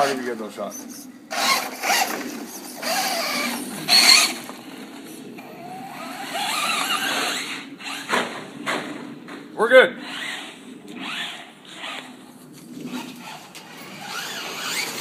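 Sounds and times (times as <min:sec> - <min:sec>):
rc car motor whining: 0:00.0 - 0:08.4, 0:10.0 - 0:12.2, 0:12.9 - 0:15.0.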